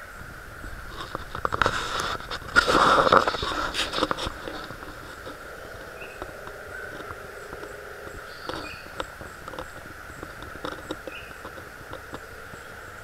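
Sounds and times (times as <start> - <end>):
rustling and clicking handling noise: 0.9 - 13.0.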